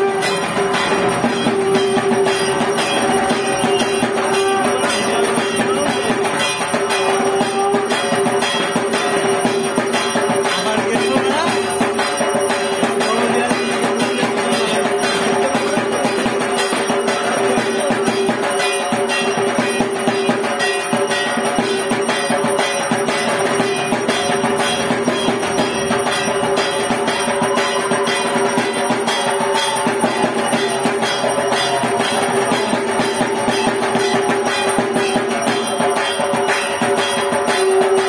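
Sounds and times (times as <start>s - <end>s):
music with percussive beat: 0.0s - 38.0s.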